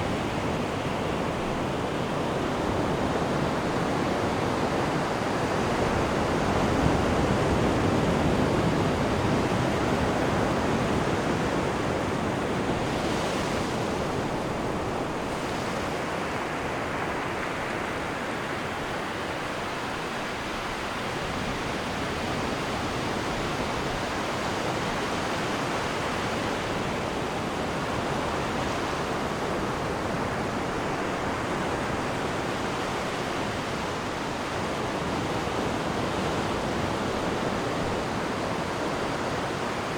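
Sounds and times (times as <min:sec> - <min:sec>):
sea water rushing in ship wake: 0:00.0 - 0:39.9.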